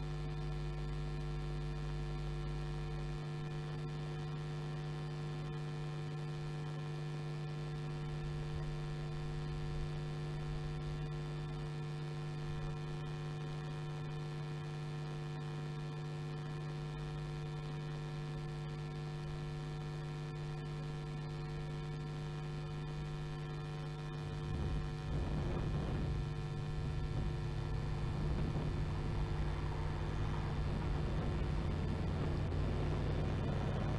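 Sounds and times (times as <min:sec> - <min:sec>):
electrical mains hum: 0:00.0 - 0:33.9.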